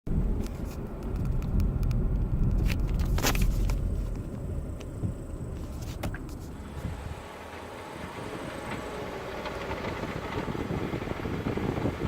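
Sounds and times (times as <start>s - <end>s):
road rumble: 0.1s - 12.0s.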